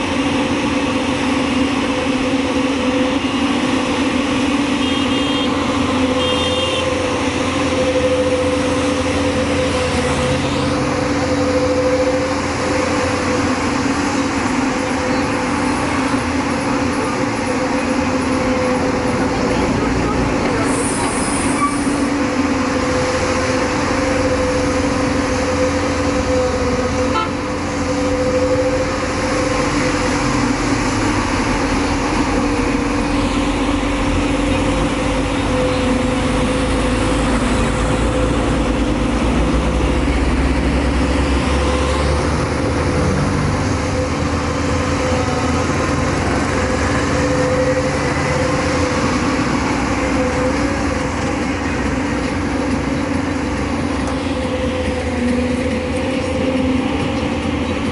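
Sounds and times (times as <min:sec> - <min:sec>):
excavator diesel engine droning: 0:00.0 - 0:57.9.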